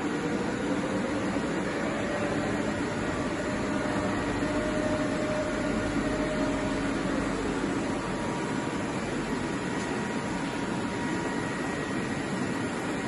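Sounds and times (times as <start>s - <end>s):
faint drive whine: 0.0s - 13.0s
machine mechanical hum: 0.0s - 13.0s.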